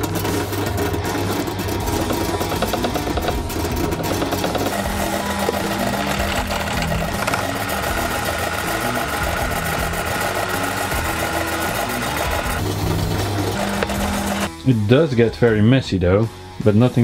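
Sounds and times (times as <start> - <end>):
drill press boring into metal: 0.0 - 14.5.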